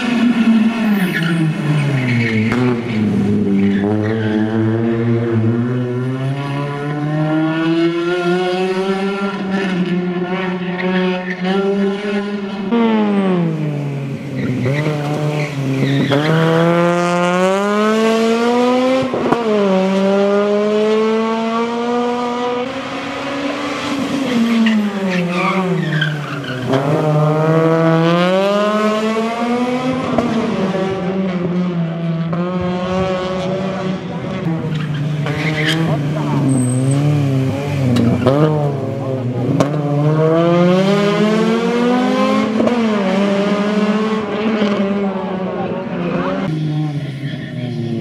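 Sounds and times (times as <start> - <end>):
rally car engine revving through gears: 0.0 - 48.0.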